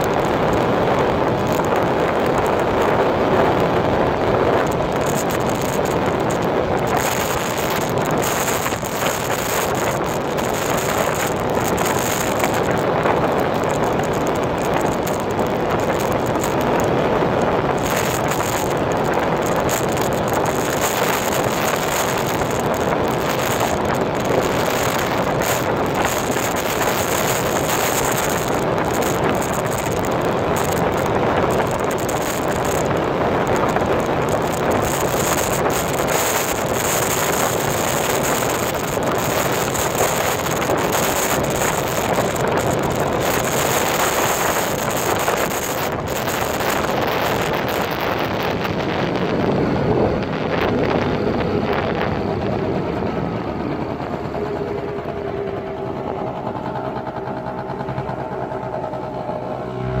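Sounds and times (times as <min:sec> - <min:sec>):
scooter engine running: 0:00.0 - 1:00.0
wind rush on microphone: 0:00.0 - 1:00.0.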